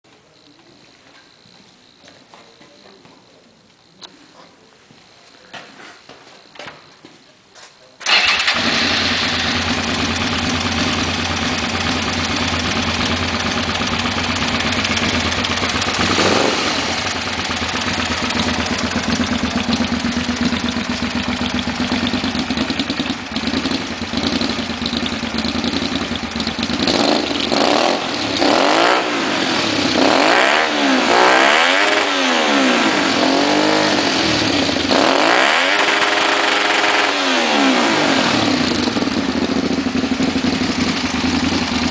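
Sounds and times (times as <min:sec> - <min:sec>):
motorcycle engine idling and revving: 0:08.0 - 0:41.9.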